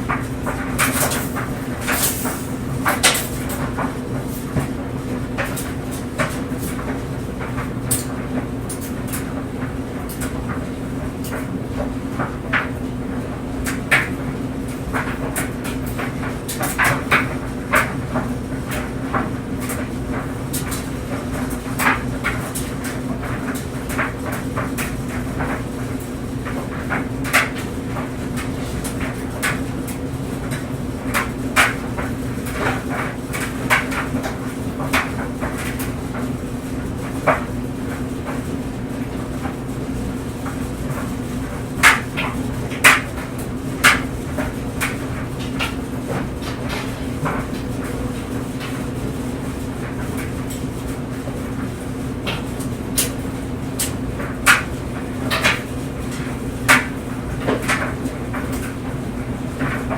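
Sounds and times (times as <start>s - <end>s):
clothes dryer motor hum: 0.0s - 59.9s
knocks and clicks in dryer drum: 0.0s - 59.9s.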